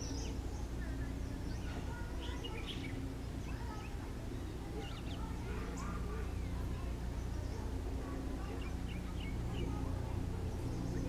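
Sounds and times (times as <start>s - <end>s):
birds chirping and calling: 0.0s - 11.0s
low background rumble: 0.0s - 11.0s.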